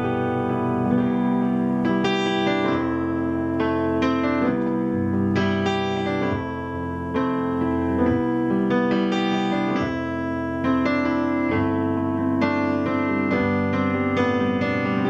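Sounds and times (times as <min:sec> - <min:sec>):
electric grand piano chords: 0:00.0 - 0:15.0.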